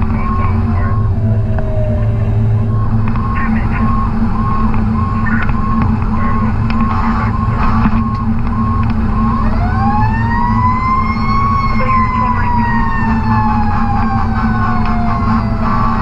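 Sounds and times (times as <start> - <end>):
diesel engine rumble: 0.0 - 16.0
fire truck siren wailing: 0.0 - 16.0.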